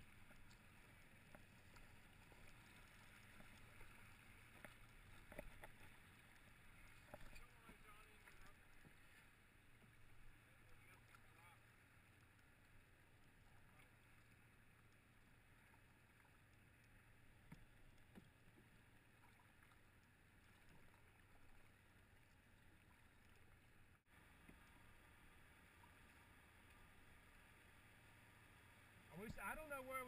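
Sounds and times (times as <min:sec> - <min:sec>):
water noise of canoe gliding: 0:00.0 - 0:30.0.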